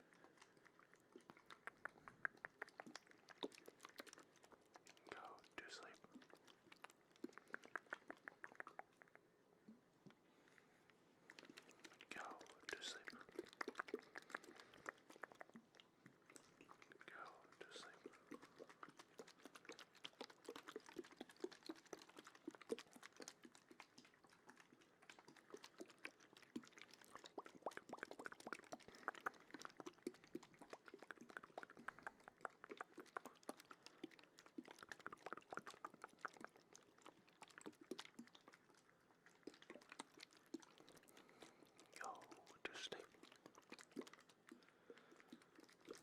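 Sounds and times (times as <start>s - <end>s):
wet mouth clicks and smacks: 0.0s - 9.3s, 10.8s - 46.0s.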